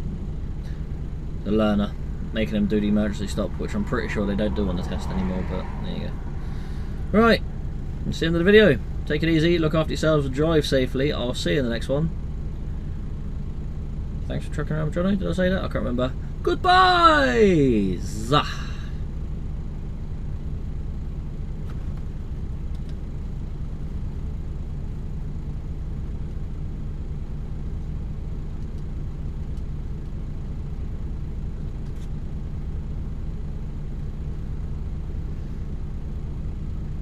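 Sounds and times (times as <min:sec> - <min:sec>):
diesel engine drone: 0:00.0 - 0:37.0.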